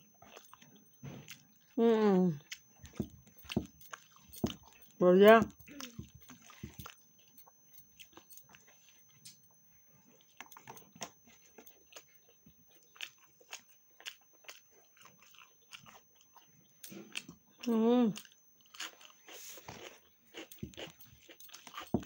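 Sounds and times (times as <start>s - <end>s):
faint chewing: 0.0s - 22.0s.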